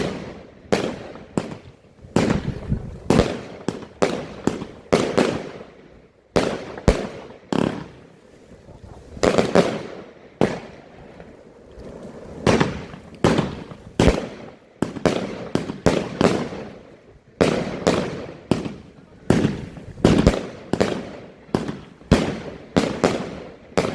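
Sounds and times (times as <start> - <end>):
fireworks bangs with echo: 0.0 - 8.3, 9.2 - 23.9.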